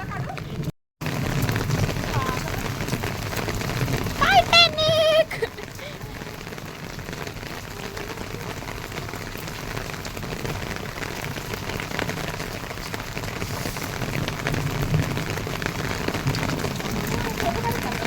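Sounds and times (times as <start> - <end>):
rain drop ticks: 0.0 - 18.0
heavy rain hissing: 1.0 - 18.0.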